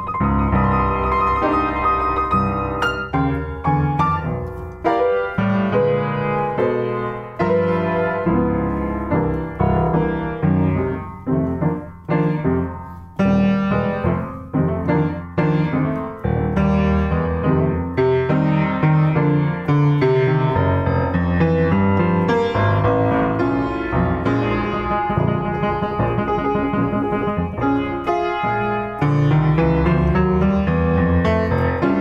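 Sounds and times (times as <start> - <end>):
blues piano: 0.0 - 32.0.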